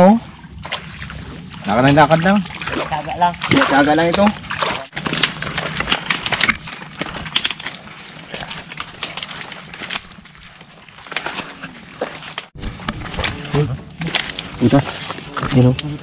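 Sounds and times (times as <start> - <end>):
footsteps crunching on shore: 0.6 - 16.0.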